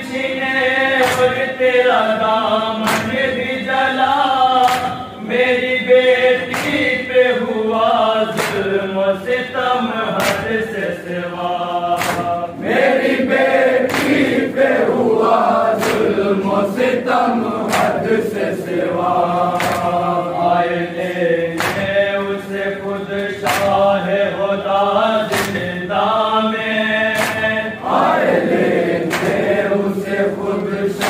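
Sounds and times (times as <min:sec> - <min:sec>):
men chanting lament: 0:00.0 - 0:31.0.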